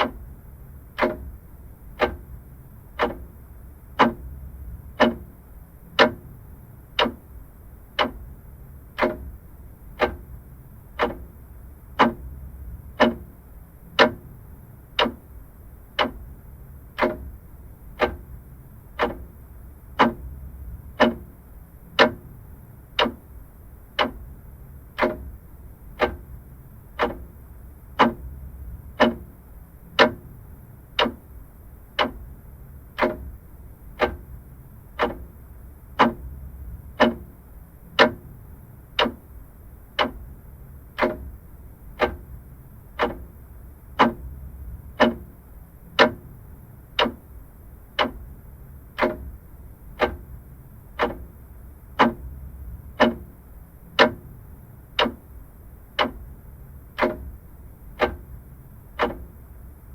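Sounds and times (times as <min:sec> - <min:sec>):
mechanical clock ticking: 0:00.0 - 0:59.9.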